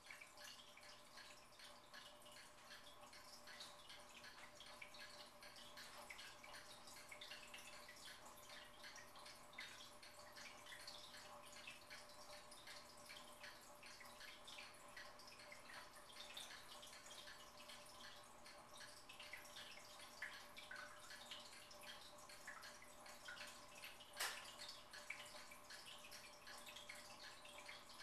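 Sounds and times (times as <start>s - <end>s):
faint steady hum: 0.0s - 28.0s
fish tank water trickling: 0.0s - 28.0s.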